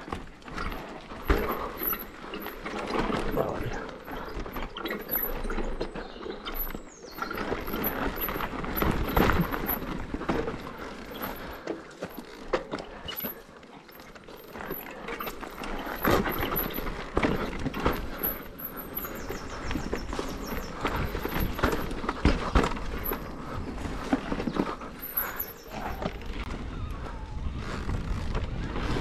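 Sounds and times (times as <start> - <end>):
bike rattling and knocking: 0.0 - 26.8
tyres on dirt trail: 0.0 - 29.0.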